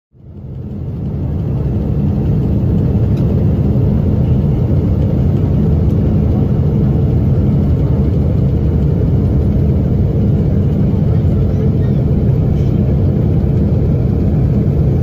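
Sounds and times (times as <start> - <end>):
aircraft cabin engine rumble: 0.2 - 15.0.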